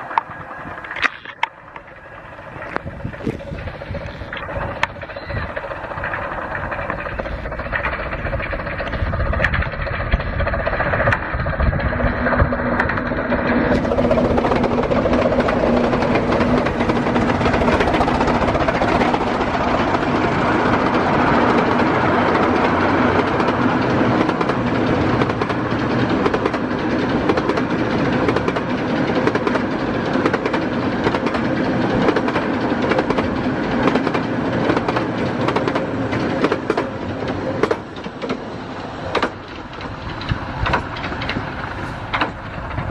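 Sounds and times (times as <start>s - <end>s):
steam train running at speed: 0.0s - 42.9s.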